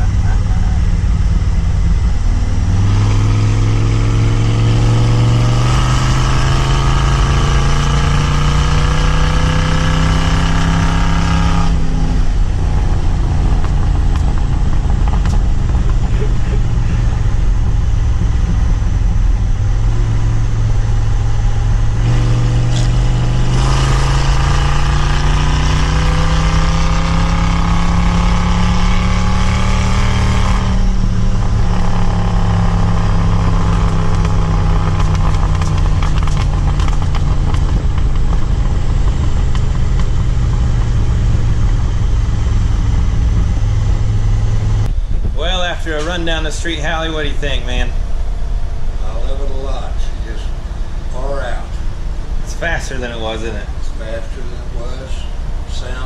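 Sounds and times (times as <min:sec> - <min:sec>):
loud engine through straight pipes: 0:00.0 - 0:56.0.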